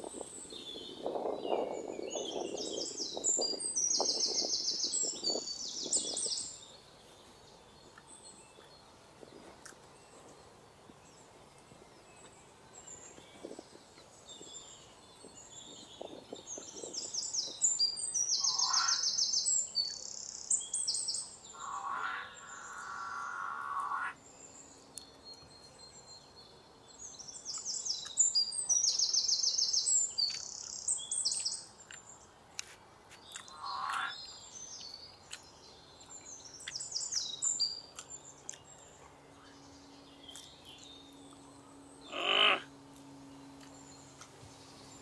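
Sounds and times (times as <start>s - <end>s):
small birds chirping trills: 0.0s - 45.0s.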